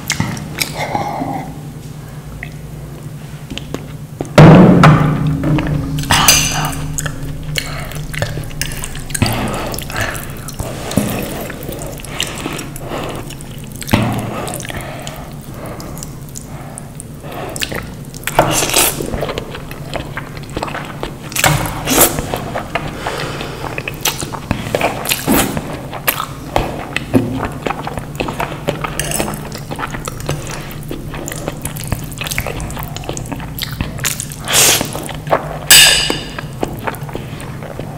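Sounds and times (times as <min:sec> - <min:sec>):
wet chewing and mouth clicks: 0:00.0 - 0:01.1, 0:06.0 - 0:37.9
low steady hum: 0:00.0 - 0:37.9.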